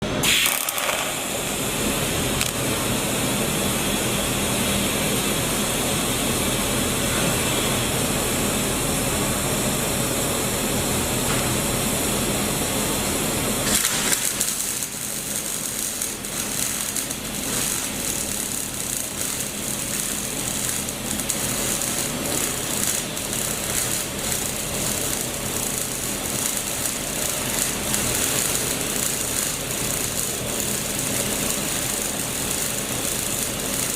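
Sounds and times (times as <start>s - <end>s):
low electrical hum: 0.0s - 33.9s
welding arc buzzing and crackling: 0.0s - 33.9s.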